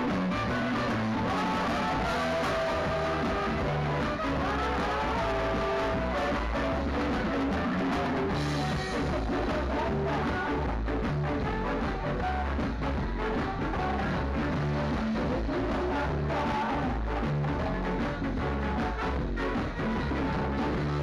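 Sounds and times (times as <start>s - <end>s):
live rock band playing: 0.0s - 21.0s
saxophone: 0.0s - 21.0s.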